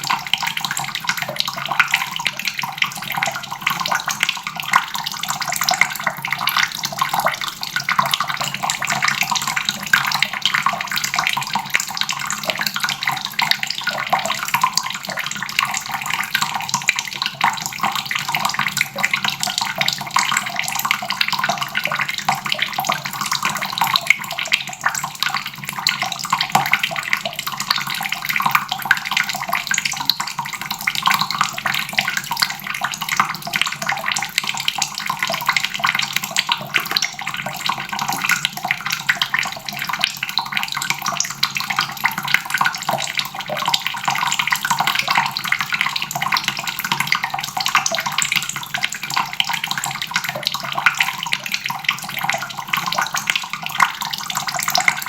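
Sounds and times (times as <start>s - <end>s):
faucet water splashing into basin: 0.0s - 55.0s.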